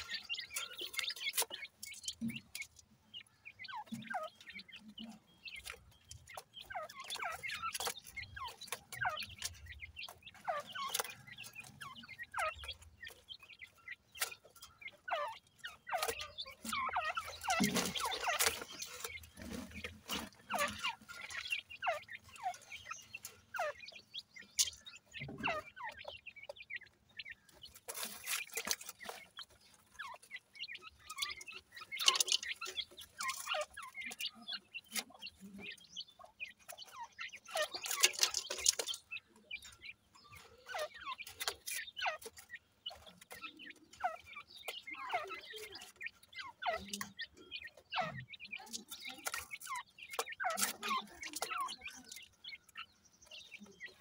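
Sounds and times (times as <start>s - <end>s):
partridge chicks peeping: 0.0s - 54.0s.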